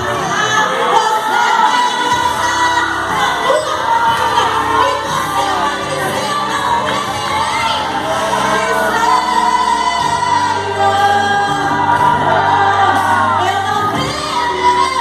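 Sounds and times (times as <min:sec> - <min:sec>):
held bass chords: 0:00.0 - 0:15.0
voices singing gospel: 0:00.0 - 0:15.0.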